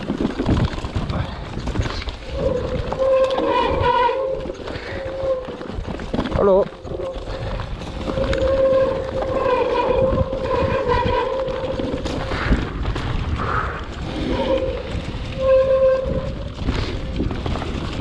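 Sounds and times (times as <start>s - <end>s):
tyres rumbling on trail: 0.0s - 18.0s
wind buffeting microphone: 0.0s - 18.0s.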